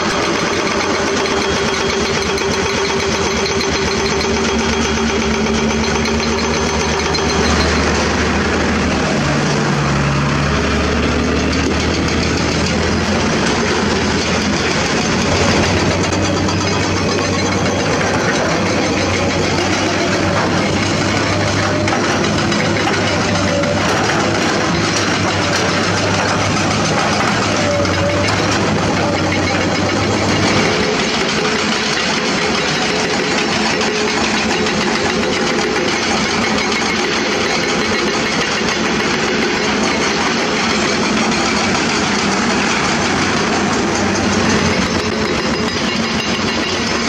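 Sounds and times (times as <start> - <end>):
distant machinery: 0.0 - 47.0
excavator diesel engines droning: 0.0 - 47.0.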